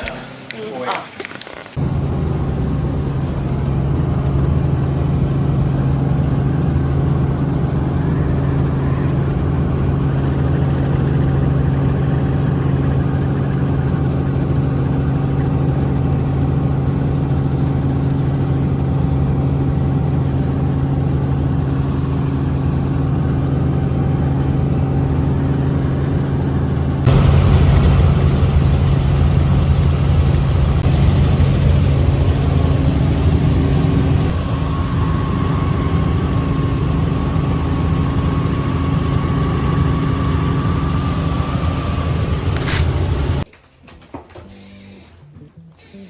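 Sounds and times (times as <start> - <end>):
vehicle engine drone: 0.0 - 43.5.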